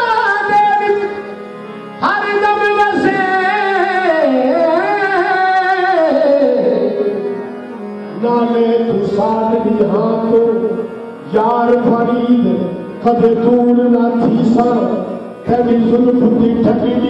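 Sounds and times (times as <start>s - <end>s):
harmonium tones: 0.0s - 17.0s.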